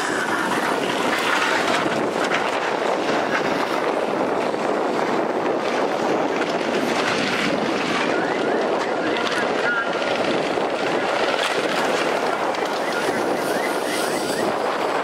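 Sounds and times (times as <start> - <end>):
bus engines droning: 0.0 - 15.0
wind on microphone: 0.0 - 15.0.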